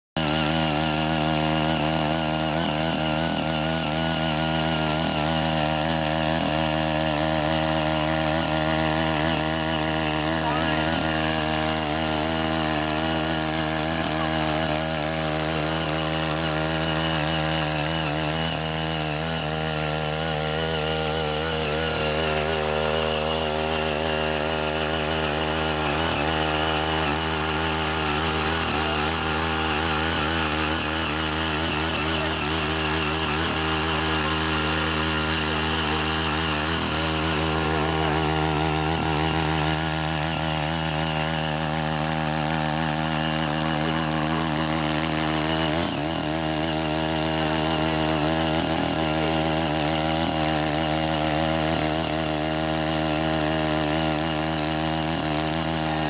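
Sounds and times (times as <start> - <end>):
tiller engine running: 0.0 - 56.0
tines churning soil: 0.2 - 56.0.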